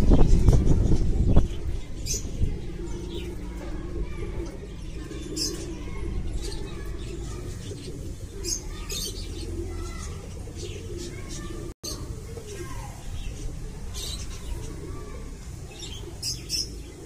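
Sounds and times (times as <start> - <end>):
pigeons cooing: 0.0 - 17.0
small birds chirping: 0.0 - 17.0.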